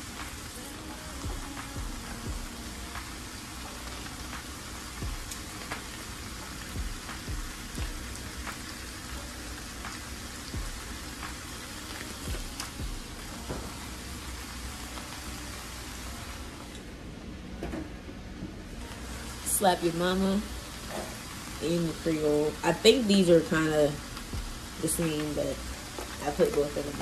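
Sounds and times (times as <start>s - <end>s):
food sizzling in a pan: 0.0s - 16.8s, 18.8s - 27.0s.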